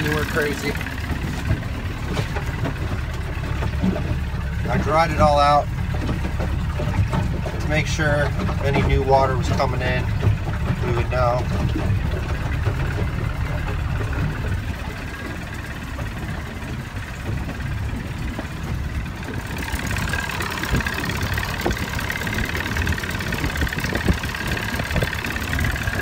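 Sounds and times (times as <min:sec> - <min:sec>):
boat motor running: 0:00.0 - 0:26.0
higher hum: 0:00.0 - 0:26.0.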